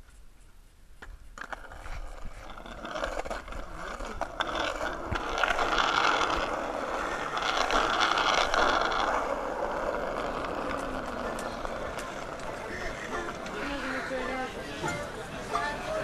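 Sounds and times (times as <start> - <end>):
skateboard clicks: 1.0 - 16.0
skateboard wheels rumbling on asphalt: 1.0 - 16.0.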